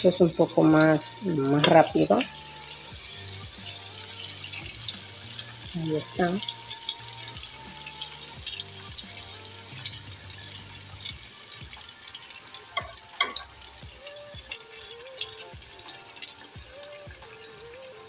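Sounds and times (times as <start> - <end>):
plantain slices sizzling in oil: 0.0 - 18.0.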